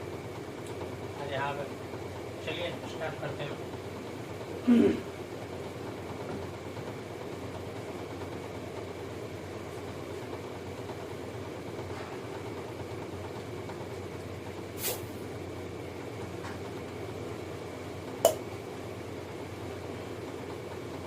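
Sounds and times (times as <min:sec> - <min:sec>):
mechanical hum and hiss: 0:00.0 - 0:21.0.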